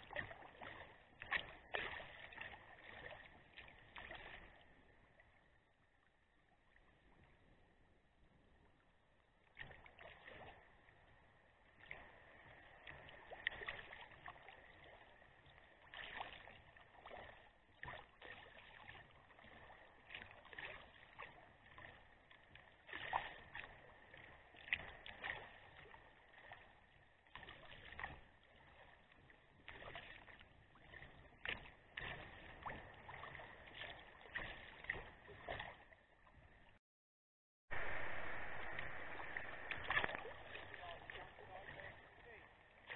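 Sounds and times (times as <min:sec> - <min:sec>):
paddle blades splashing water: 0:00.0 - 0:36.8, 0:37.7 - 0:42.9.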